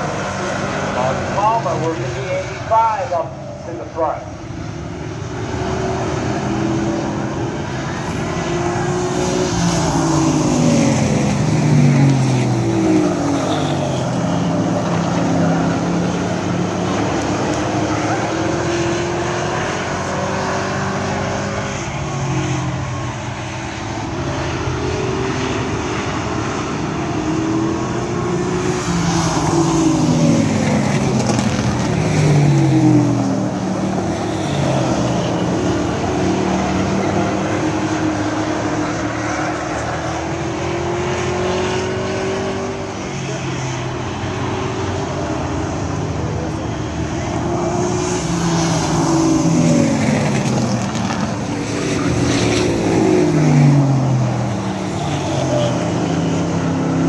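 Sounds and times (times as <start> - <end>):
racing truck engines passing: 0.0 - 57.0.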